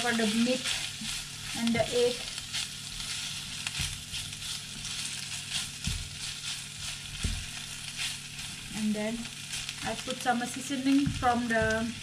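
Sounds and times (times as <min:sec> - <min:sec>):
food sizzling in a frying pan: 0:00.0 - 0:12.0
spatula scraping a pan: 0:00.0 - 0:12.0.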